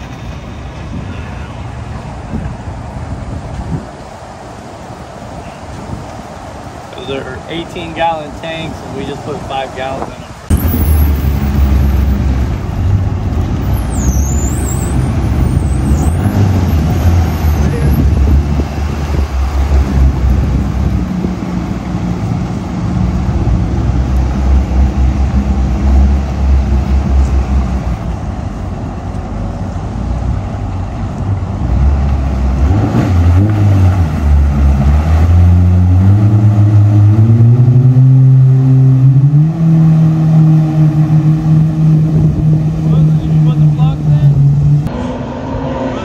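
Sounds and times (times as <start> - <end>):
watercraft engine idling and revving: 4.2 - 45.8.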